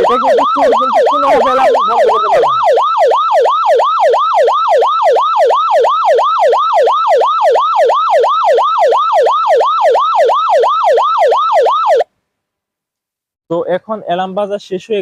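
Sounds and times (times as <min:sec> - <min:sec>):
security alarm siren warbling: 0:00.0 - 0:12.0.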